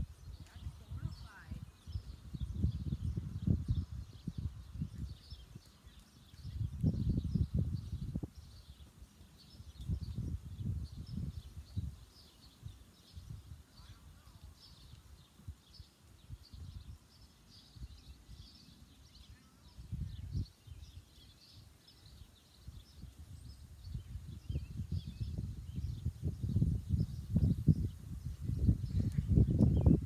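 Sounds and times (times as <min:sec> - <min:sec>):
small birds chirping: 0:00.0 - 0:30.0
wind rumbling on microphone: 0:00.0 - 0:30.0.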